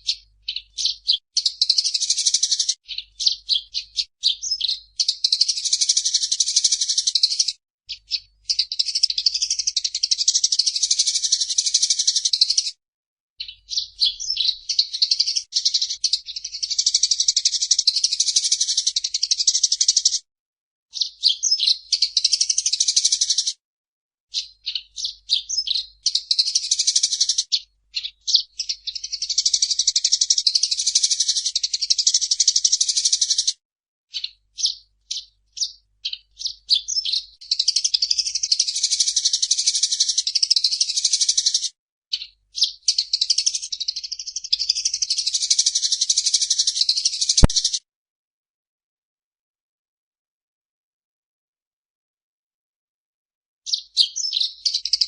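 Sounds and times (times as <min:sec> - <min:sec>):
sparrow chirping: 0:00.0 - 0:12.8, 0:13.4 - 0:20.2, 0:20.9 - 0:23.5, 0:24.3 - 0:33.5, 0:34.1 - 0:47.8, 0:53.7 - 0:55.0.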